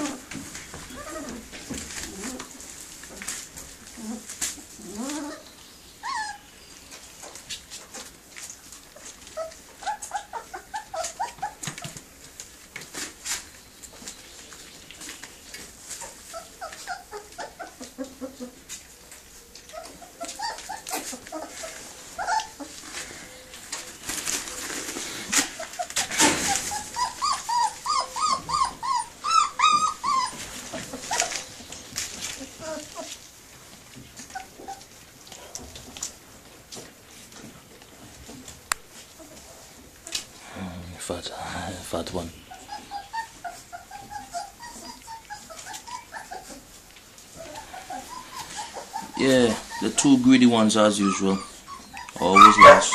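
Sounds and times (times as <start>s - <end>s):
puppies whimpering and whining: 0.0s - 2.7s, 3.8s - 12.4s, 13.4s - 35.4s, 39.0s - 40.2s, 41.6s - 52.9s
rustles: 0.0s - 52.9s.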